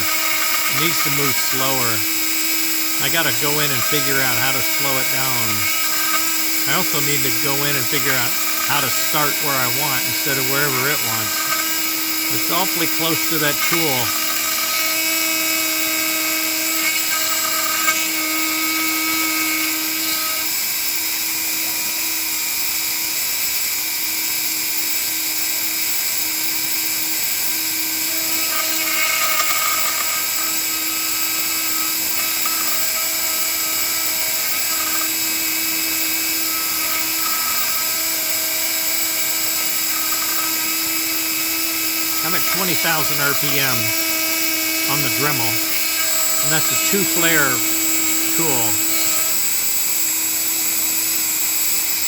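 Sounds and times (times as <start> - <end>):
rotary tool high-pitched whine: 0.0 - 52.0.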